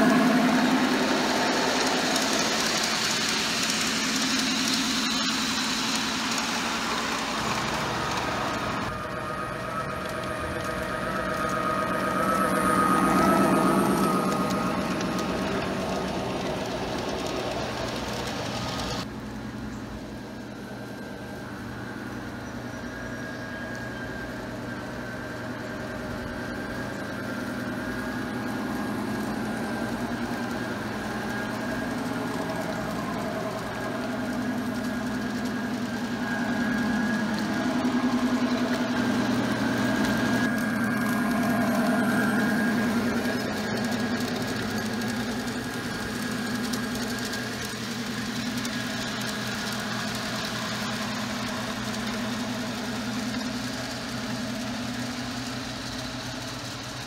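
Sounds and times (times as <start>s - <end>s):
wheels rolling on rails: 0.0s - 57.0s.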